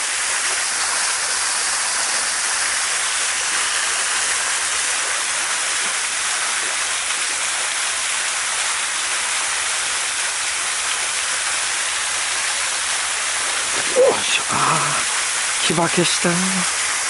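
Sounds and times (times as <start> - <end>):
waterfall pouring into pond: 0.0 - 17.0.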